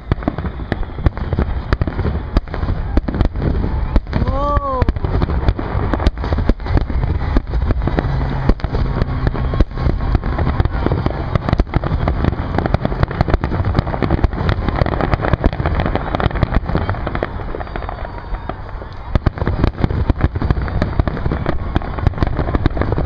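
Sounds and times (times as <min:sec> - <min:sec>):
fireworks bursts and crackles: 0:00.0 - 0:23.0
low fireworks rumble: 0:00.0 - 0:23.0.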